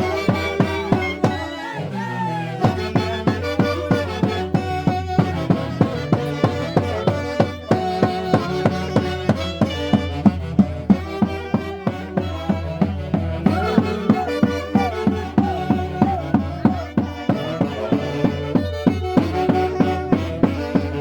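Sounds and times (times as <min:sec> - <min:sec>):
steady drum beat: 0:00.0 - 0:01.6, 0:02.6 - 0:21.0
violin melody: 0:00.0 - 0:21.0.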